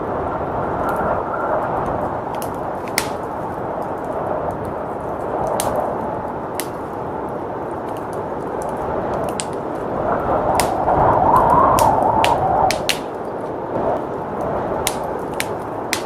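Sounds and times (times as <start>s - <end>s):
blizzard wind blowing: 0.0s - 16.0s
fireplace fire crackling: 0.0s - 16.0s.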